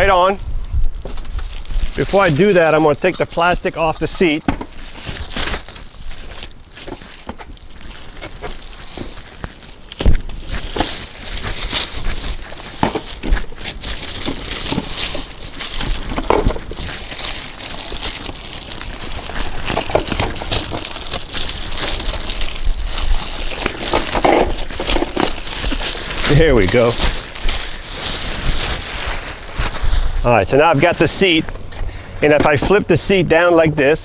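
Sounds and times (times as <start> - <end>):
plastic wrapping crinkling: 0.0 - 31.8.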